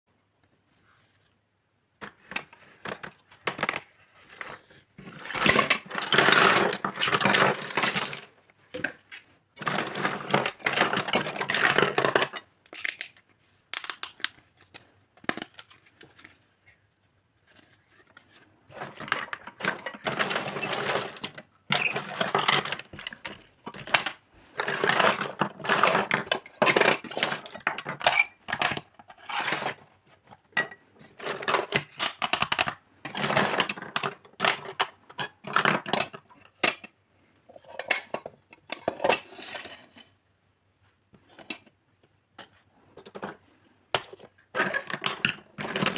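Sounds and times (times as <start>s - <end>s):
packaging rustling and clattering: 2.0s - 36.6s, 42.4s - 45.9s.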